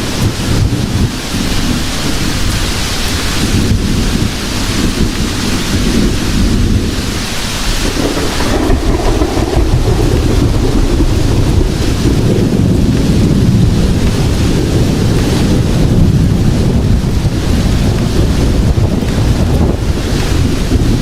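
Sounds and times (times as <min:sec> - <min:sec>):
heavy rain falling: 0:00.0 - 0:21.0
rolling thunder: 0:00.0 - 0:21.0.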